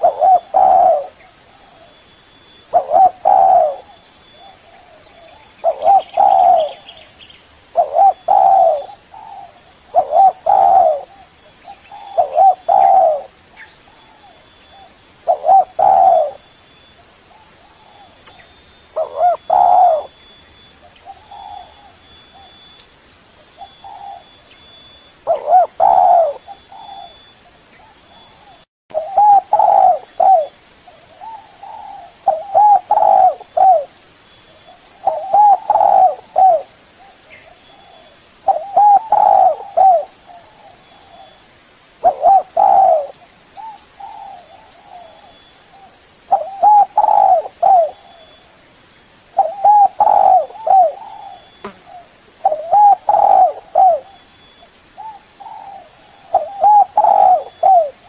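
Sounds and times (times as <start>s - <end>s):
dove cooing: 0.0s - 7.0s, 7.7s - 16.5s, 17.3s - 22.6s, 23.5s - 24.4s, 25.2s - 34.0s, 34.6s - 41.4s, 42.0s - 48.5s, 49.3s - 58.0s.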